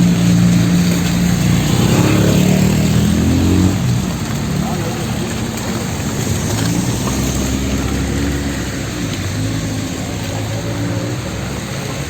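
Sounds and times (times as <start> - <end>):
rain hiss on wet road: 0.0 - 12.0
vehicle engine running: 0.0 - 12.0.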